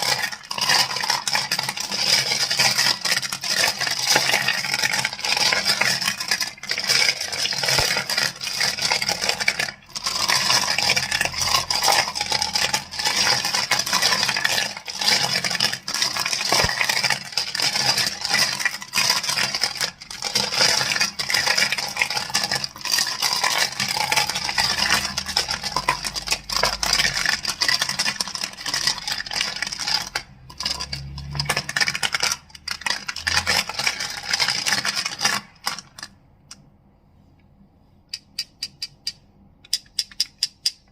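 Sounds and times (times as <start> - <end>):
crystals clicking and clattering: 0.0 - 36.2, 38.2 - 40.9.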